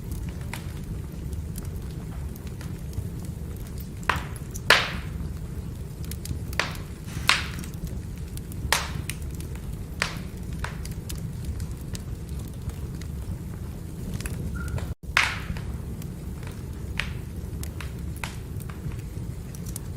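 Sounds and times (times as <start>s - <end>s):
firewood crackling and popping: 0.0s - 19.9s
low rumble of fire: 0.0s - 19.9s.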